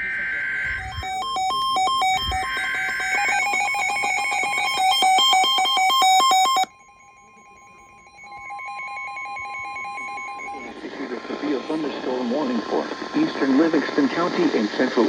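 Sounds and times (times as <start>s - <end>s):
two-tone attention signal: 0.0s - 13.4s
fast electronic beeps: 0.0s - 14.5s
data burst tones: 0.0s - 15.0s.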